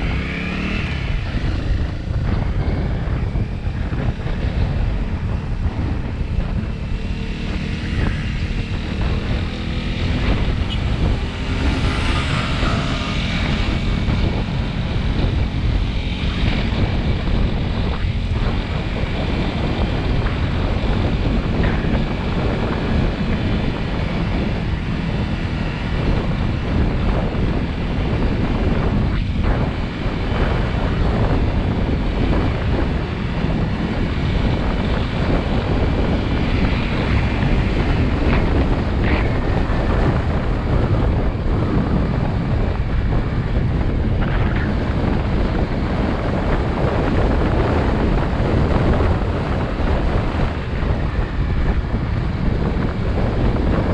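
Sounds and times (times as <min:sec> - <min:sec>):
motorcycle engine running: 0:00.0 - 0:53.9
wind buffeting on microphone: 0:00.0 - 0:53.9.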